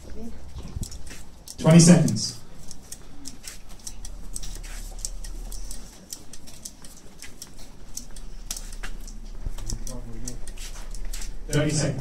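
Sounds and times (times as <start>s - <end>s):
clasps clicking and snapping: 0.6s - 11.9s.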